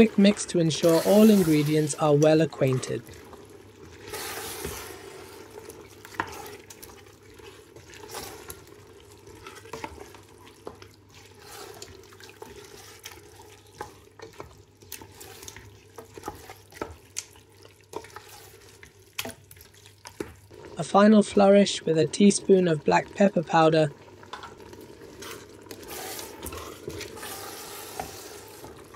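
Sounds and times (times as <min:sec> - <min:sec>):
faint sizzle: 0:00.0 - 0:28.9.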